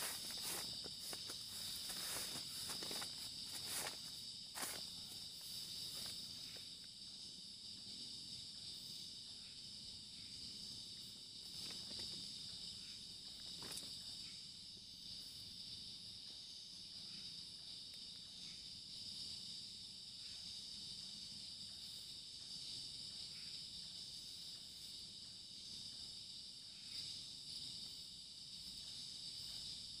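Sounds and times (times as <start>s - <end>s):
night insect chorus: 0.0s - 30.0s.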